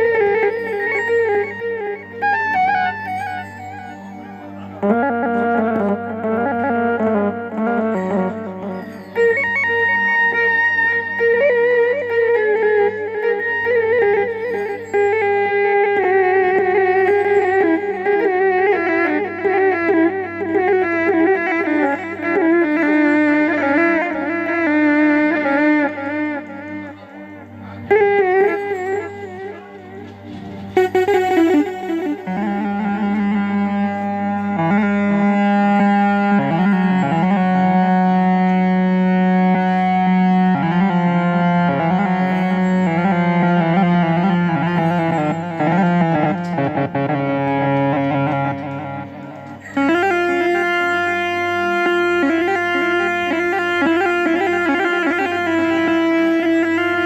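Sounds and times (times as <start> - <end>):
synthesizer rebab melody: 0.0 - 57.0.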